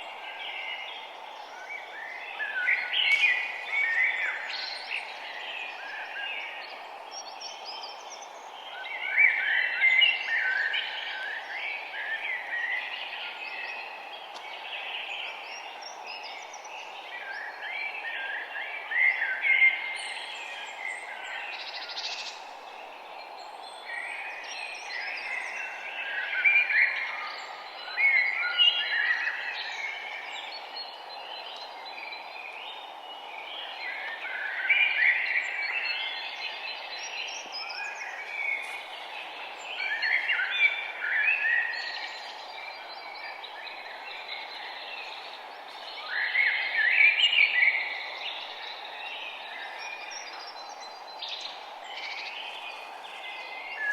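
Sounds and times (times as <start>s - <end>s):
songbirds singing: 0.0s - 53.9s
outdoor background rush: 2.5s - 53.9s.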